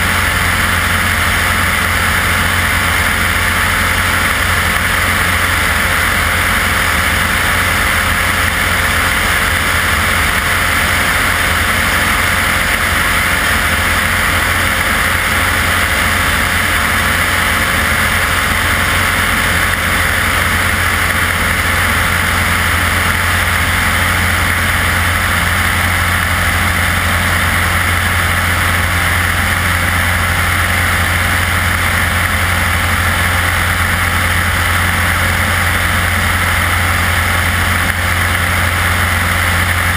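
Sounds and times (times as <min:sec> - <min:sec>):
propeller aircraft engine in flight: 0:00.0 - 0:39.9.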